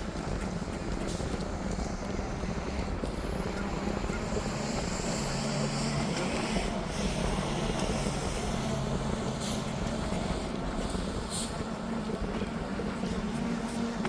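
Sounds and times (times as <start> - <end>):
motorhome engine hum and road noise: 0.0 - 14.0.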